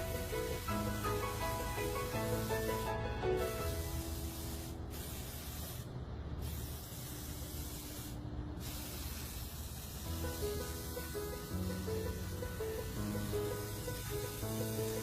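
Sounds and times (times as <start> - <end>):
steady hissing: 0.0 - 15.0.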